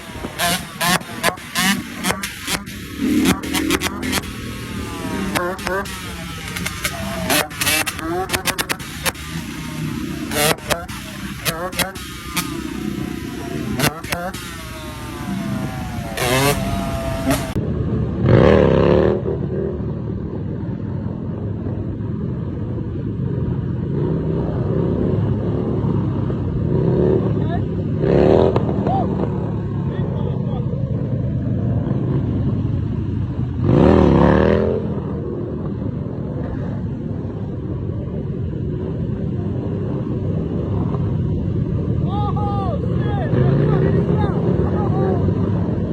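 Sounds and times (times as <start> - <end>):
engine low rumble: 0.0 - 45.9
motorcycle engines revving: 0.0 - 45.9.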